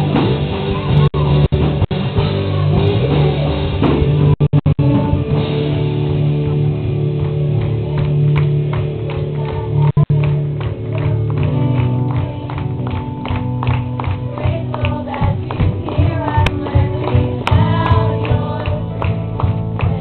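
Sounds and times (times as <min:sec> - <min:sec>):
drum kit: 0:00.0 - 0:20.0
electric guitar chords: 0:00.0 - 0:20.0.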